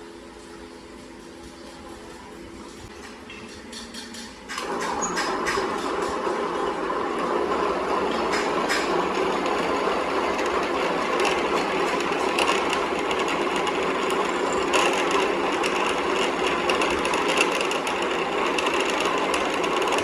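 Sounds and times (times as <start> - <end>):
machine running with fine clatter: 0.0 - 20.0.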